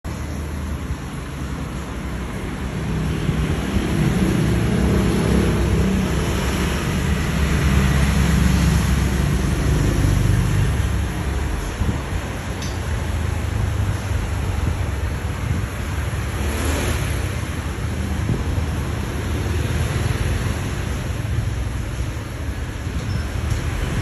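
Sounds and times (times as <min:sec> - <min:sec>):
fan airflow buffeting microphone: 0:00.1 - 0:24.0.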